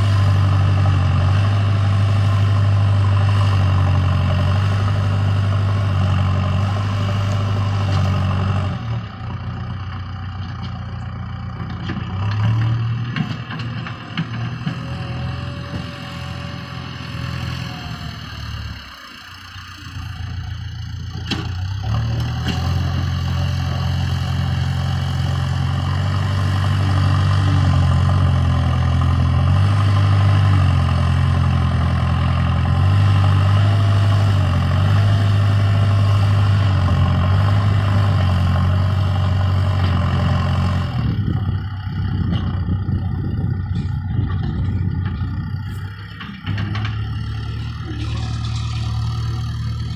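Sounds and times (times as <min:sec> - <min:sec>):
heavy diesel engine under load: 0:00.0 - 0:49.9.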